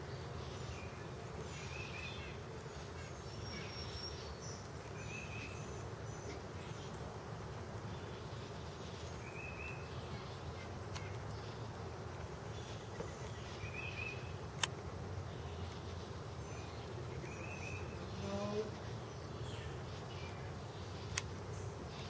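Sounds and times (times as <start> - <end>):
bird chirp: 0.0 - 22.0
honeybees buzzing: 0.0 - 22.0.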